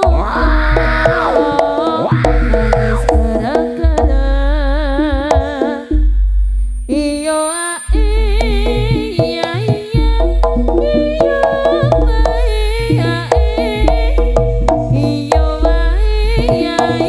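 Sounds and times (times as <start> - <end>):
hand drum strokes: 0.0 - 6.2, 8.0 - 17.0.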